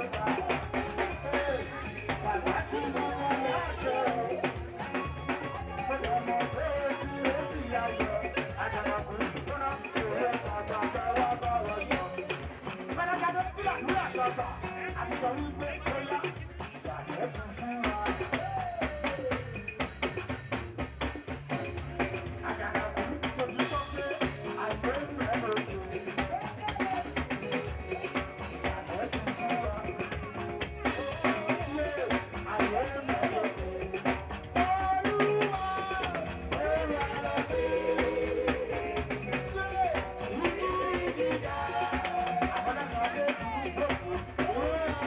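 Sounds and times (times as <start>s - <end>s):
person singing: 0.0s - 19.8s, 21.5s - 45.0s
music with drum beat and bass: 0.0s - 45.0s.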